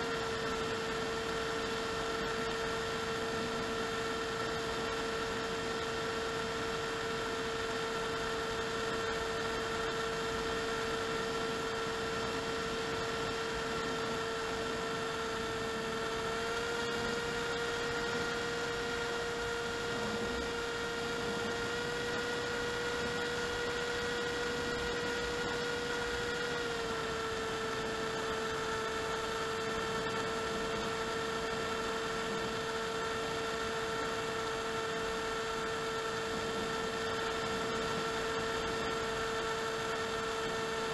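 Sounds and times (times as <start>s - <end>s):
model plane motor whining: 0.0s - 40.9s.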